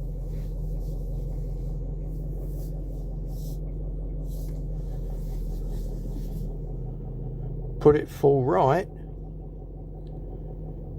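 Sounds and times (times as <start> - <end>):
diesel engine idling: 0.0 - 10.9.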